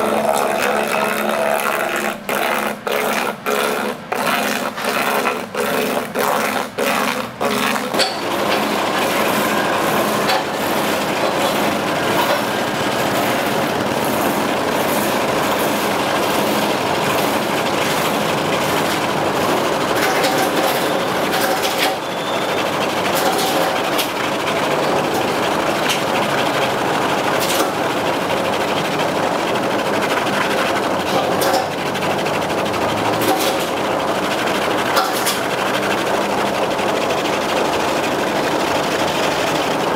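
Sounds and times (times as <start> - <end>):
machine running harshly: 0.0 - 39.9.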